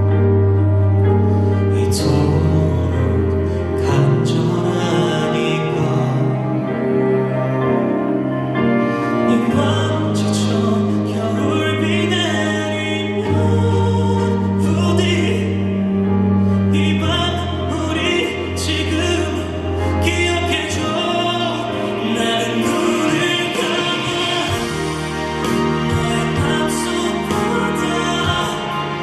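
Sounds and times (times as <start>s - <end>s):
ballad music over sound system: 0.0s - 29.0s.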